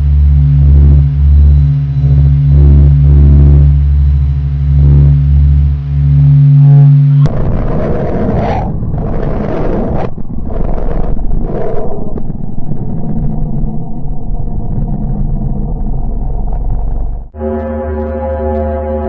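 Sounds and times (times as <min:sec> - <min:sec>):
deep electronic drone: 0:00.0 - 0:19.0
harsh crackling rushing noise: 0:00.0 - 0:19.0.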